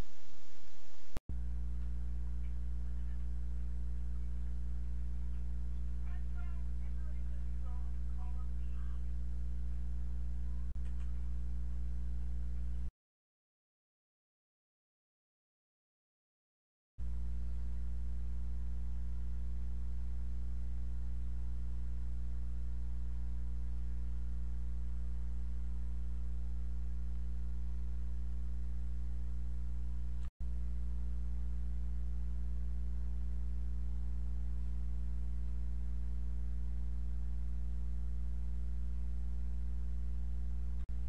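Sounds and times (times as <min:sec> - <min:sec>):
low electrical hum with buzzing: 0:00.0 - 0:12.9, 0:17.0 - 0:41.0.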